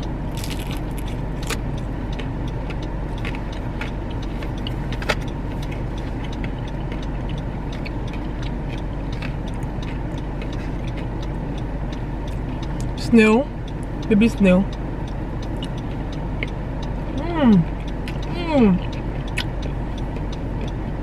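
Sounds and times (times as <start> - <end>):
car cabin engine hum: 0.0 - 21.0.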